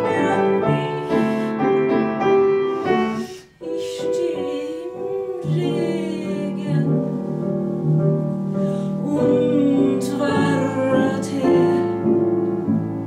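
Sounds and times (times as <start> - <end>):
woman singing with vibrato: 0.0 - 2.2, 2.8 - 7.5, 8.7 - 12.3
grand piano accompaniment: 0.0 - 13.0.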